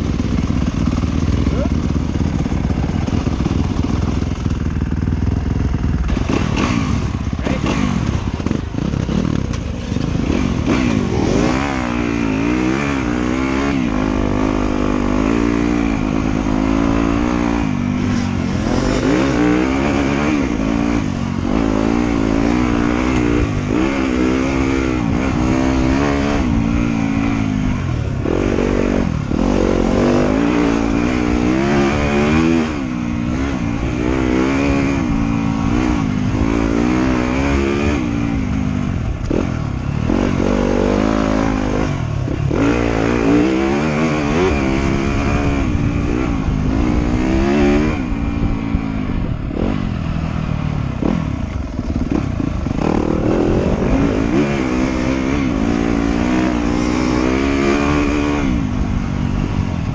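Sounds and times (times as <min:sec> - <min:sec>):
off-road motorcycle engine revving: 0:00.0 - 0:59.9.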